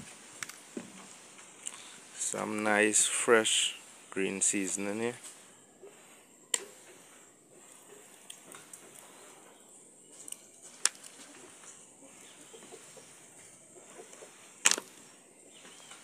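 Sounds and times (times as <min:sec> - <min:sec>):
high hiss: 0:00.0 - 0:16.0.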